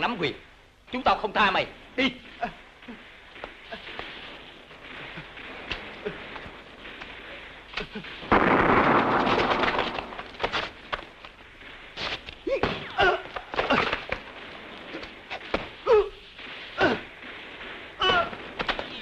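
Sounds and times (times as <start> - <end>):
sharp cracks and thuds: 0.0 - 19.0.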